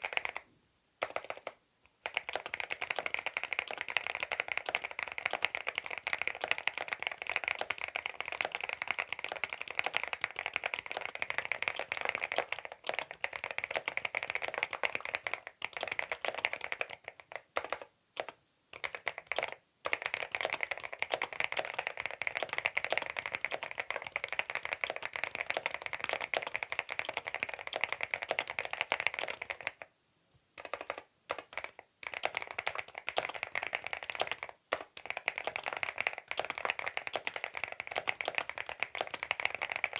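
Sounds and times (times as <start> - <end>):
mechanical keyboard typing: 0.0 - 0.4, 1.0 - 29.9, 30.6 - 39.9.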